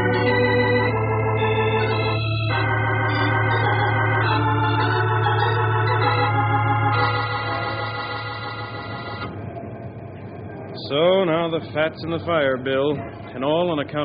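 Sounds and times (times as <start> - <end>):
sustained organ chords: 0.0 - 13.9.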